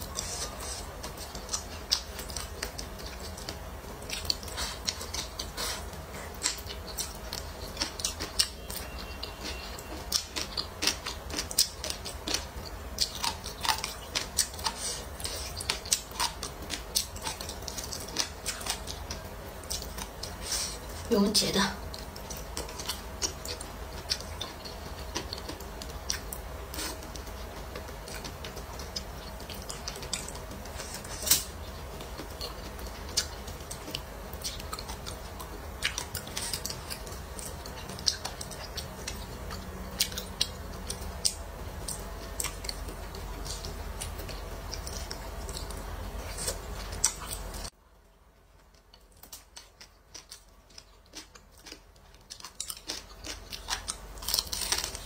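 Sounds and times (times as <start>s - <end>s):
person chewing food: 0.0s - 21.1s, 21.8s - 55.0s.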